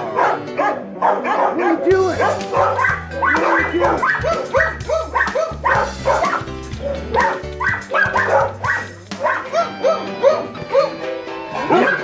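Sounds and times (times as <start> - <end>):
background music: 0.0 - 12.0
dogs barking and yipping: 0.0 - 12.0.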